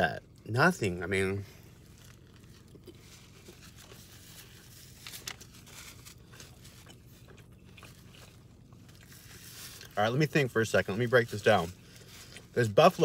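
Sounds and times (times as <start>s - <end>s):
chewing crispy food: 0.1s - 13.0s.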